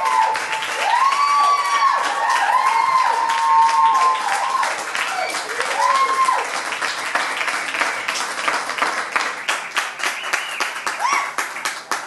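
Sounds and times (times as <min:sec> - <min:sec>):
audience cheering: 0:00.0 - 0:08.3, 0:09.2 - 0:11.5
audience applauding: 0:00.0 - 0:12.0.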